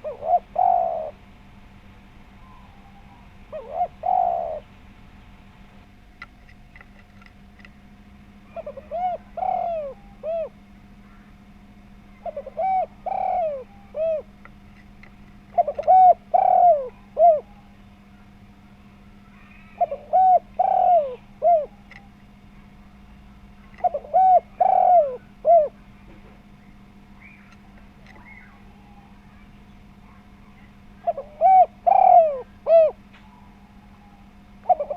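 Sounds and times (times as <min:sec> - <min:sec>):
dove cooing: 0:00.0 - 0:01.4, 0:02.2 - 0:05.1, 0:08.4 - 0:34.9
faint steady hum: 0:00.0 - 0:34.9.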